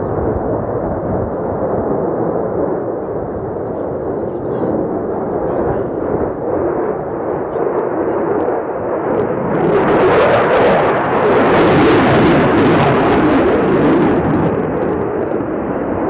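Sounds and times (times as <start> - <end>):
fighter jet engine noise: 0.0 - 16.0.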